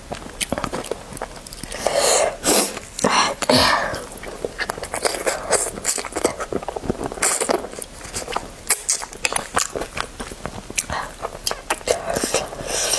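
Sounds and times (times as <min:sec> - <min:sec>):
close-miked chewing and biting: 0:00.0 - 0:12.9.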